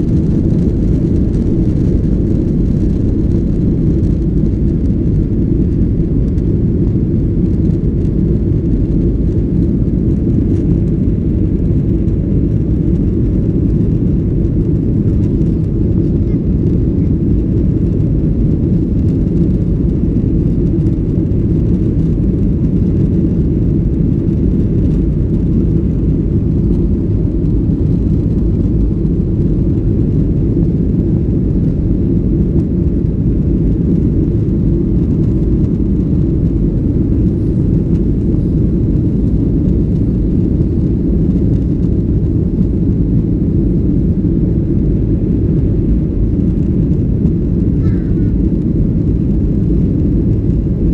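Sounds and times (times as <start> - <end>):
jet engine cabin rumble: 0.0 - 50.9.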